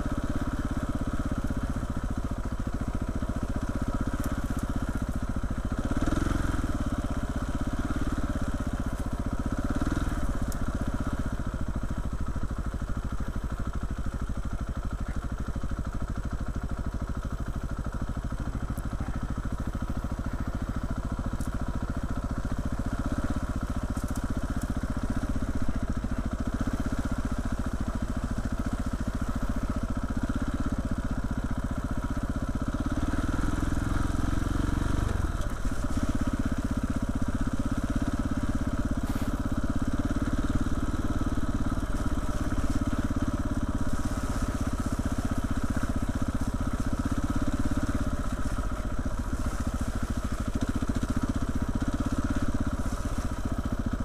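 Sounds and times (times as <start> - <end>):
motorcycle engine riding slowly: 0.0 - 54.0.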